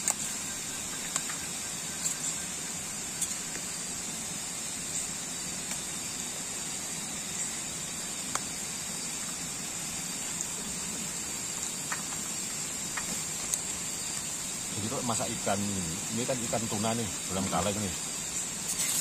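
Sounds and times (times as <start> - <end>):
camping stove hissing: 0.0 - 19.0.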